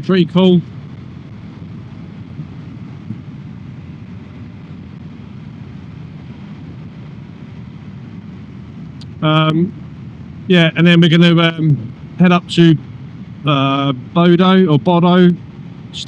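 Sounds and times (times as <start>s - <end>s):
motorcycle engine rumble: 0.0s - 16.0s
wind noise: 0.0s - 16.0s.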